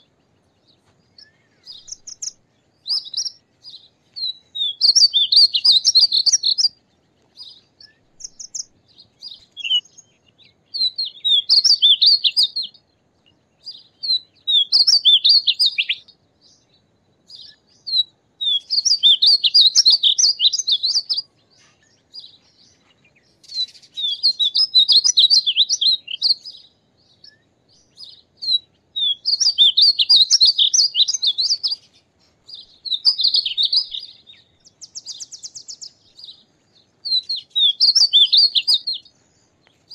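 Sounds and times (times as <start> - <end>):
bird singing warbled notes: 0.0 - 6.8, 7.4 - 12.8, 17.3 - 39.1.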